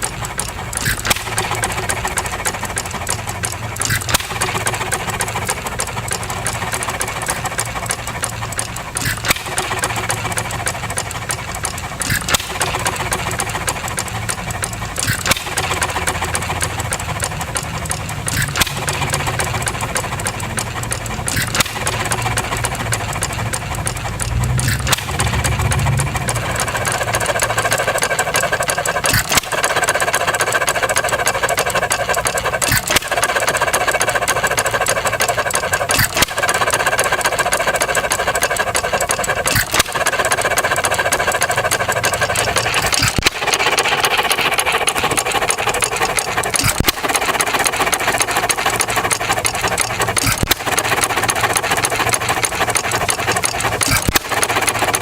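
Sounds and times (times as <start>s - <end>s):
engine clattering: 0.0s - 55.0s.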